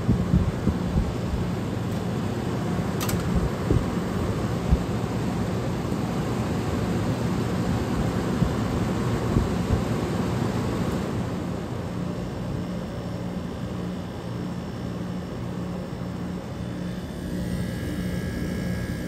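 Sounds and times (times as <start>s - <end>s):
air conditioner fan running: 0.0s - 19.0s
low compressor hum: 0.0s - 19.0s.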